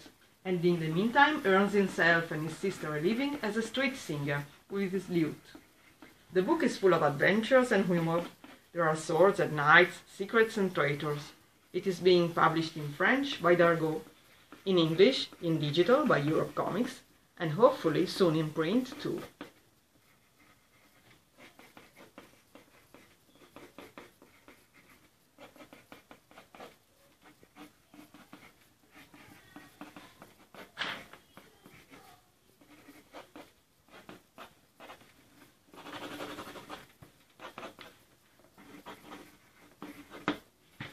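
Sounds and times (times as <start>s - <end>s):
pencil sketching on paper: 0.5s - 40.9s.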